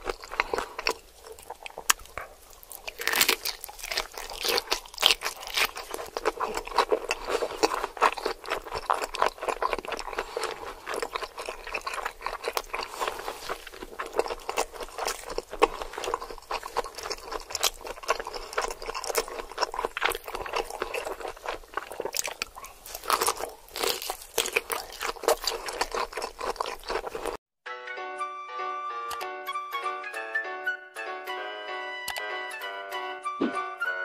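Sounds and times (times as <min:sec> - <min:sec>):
chewing crispy food: 0:00.0 - 0:27.4.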